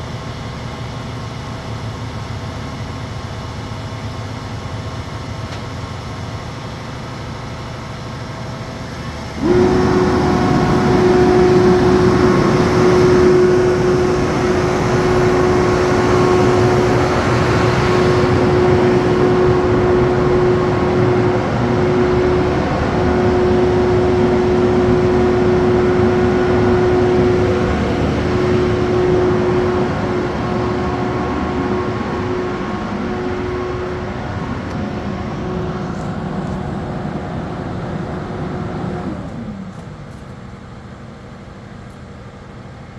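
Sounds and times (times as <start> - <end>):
crane truck engine and hydraulics: 0.0 - 42.9
constant whine: 4.8 - 40.6.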